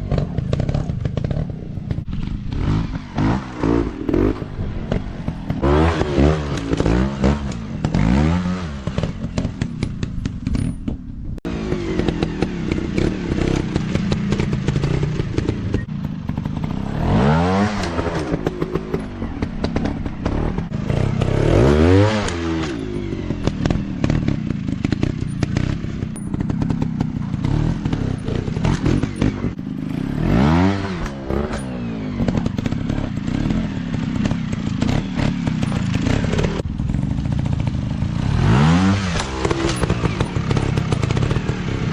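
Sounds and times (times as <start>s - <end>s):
dirt bike engines revving: 0.0s - 10.8s, 11.5s - 41.9s.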